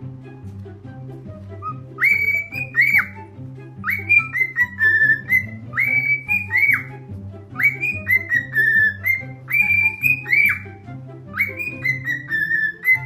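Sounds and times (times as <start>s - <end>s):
background music with bass line: 0.0s - 13.0s
cockatiel whistling a tune: 1.4s - 13.0s.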